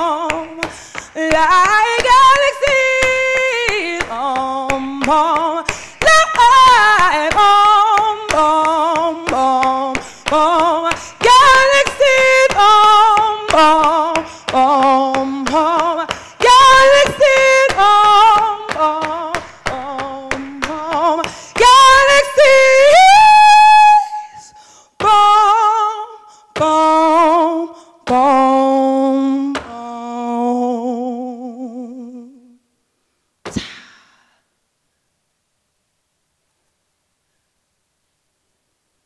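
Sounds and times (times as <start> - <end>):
woman singing into microphone: 0.0 - 32.6.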